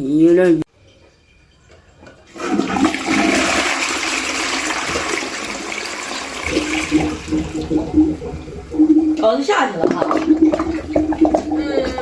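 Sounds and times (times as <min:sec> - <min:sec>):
drain glugging gurgle: 0:02.2 - 0:12.0
toilet flushing: 0:02.2 - 0:12.0.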